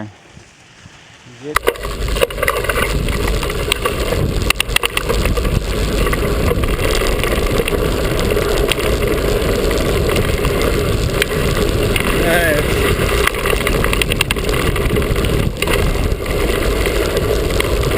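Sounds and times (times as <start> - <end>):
bike tyres rumbling on dirt: 0.0 - 17.9
bike clicks and rattles: 1.5 - 17.9.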